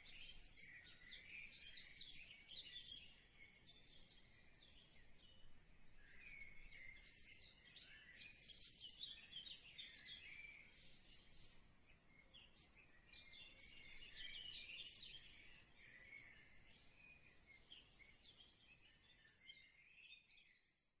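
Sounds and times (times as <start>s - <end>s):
small birds chirping and trilling: 0.0s - 21.0s.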